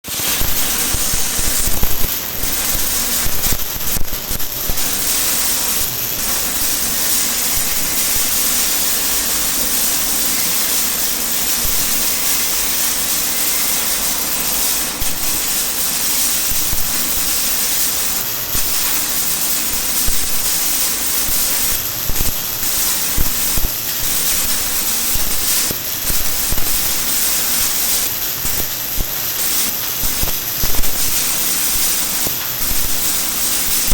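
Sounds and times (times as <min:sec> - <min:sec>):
welding arc hissing: 0:00.1 - 0:33.9.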